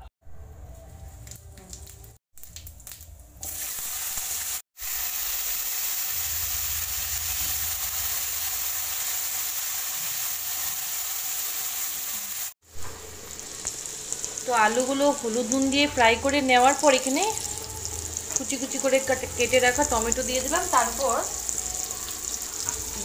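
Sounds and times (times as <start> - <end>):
potatoes sizzling in hot oil: 3.4 - 23.0.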